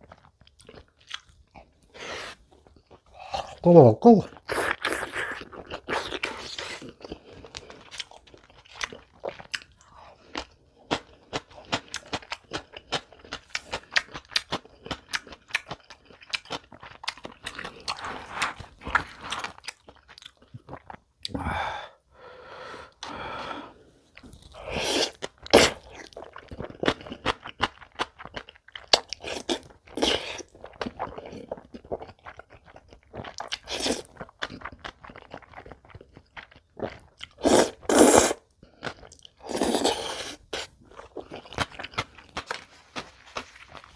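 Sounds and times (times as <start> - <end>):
crunchy food being chewed: 0.0 - 3.6, 4.3 - 21.3, 24.1 - 43.9.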